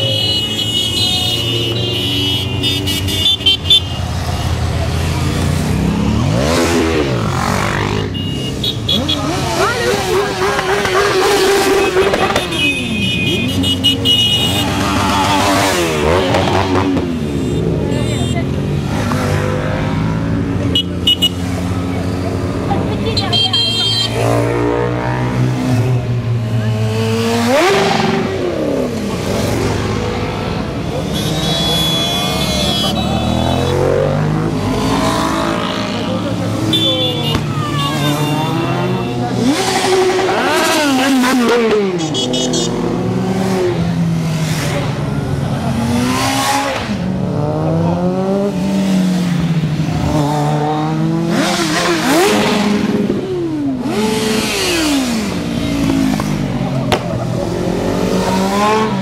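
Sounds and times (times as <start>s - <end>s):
motorcycle engines running: 0.0s - 59.0s
motorcycle engine revving: 4.0s - 59.0s.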